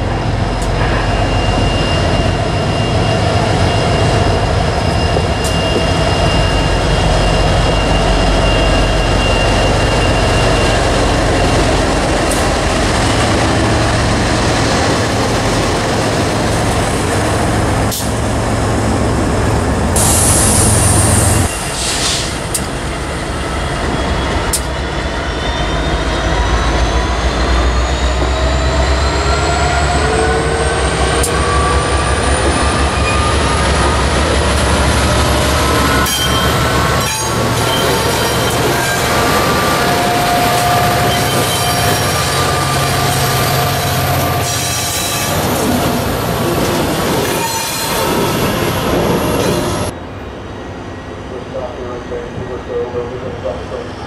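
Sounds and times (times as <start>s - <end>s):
diesel locomotives rumbling: 0.0s - 54.0s
rising locomotive whine: 0.0s - 54.0s.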